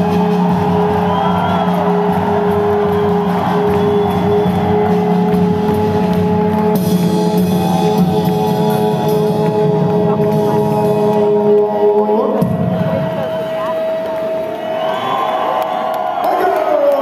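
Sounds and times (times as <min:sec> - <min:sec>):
music over loudspeakers: 0:00.0 - 0:14.7.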